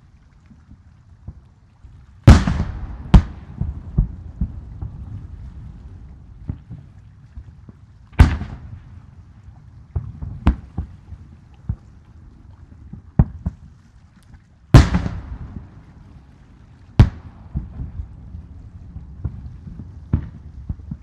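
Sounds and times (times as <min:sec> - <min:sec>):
low rumble: 0:02.3 - 0:13.0, 0:14.8 - 0:21.0.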